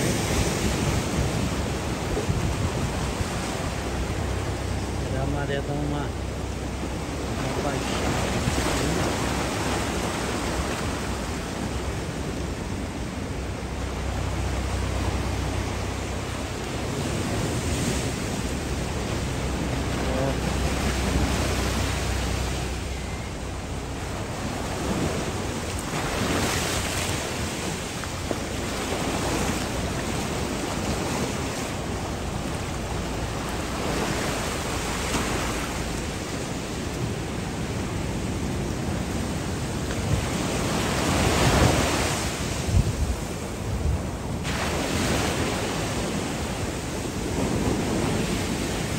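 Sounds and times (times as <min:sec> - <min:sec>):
waves breaking on rocks: 0:00.0 - 0:48.9.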